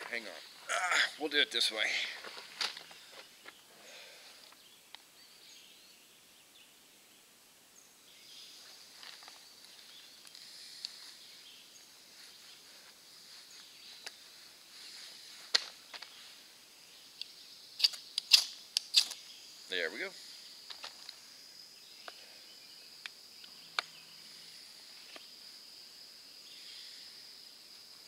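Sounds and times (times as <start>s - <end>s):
birds and insects: 0.0s - 28.0s.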